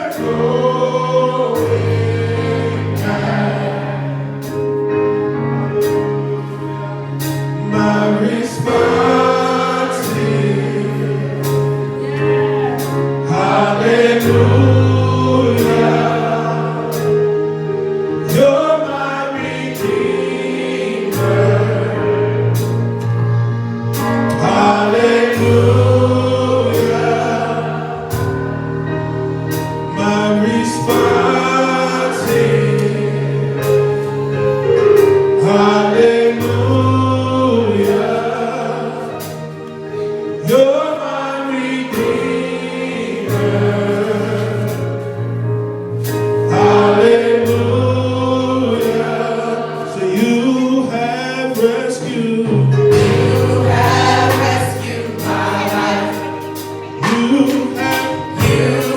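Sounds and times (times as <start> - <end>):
band playing: 0.0 - 58.9
gospel choir singing: 0.0 - 58.9.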